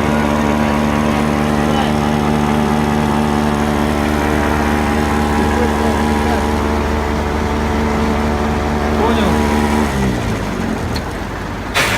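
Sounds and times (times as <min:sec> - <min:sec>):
drilling rig machinery humming: 0:00.0 - 0:11.9.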